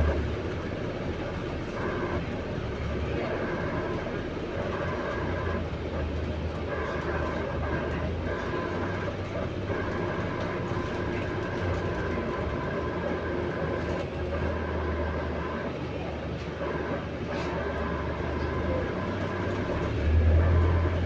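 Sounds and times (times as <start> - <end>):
bus engine drone: 0.0 - 21.0.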